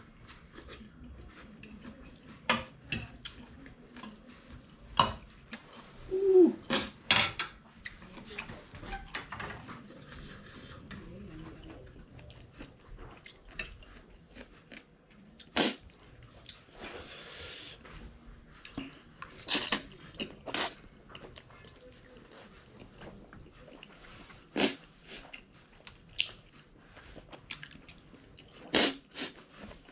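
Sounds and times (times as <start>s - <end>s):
person chewing noodles: 0.1s - 7.0s, 9.8s - 17.8s, 18.5s - 29.9s.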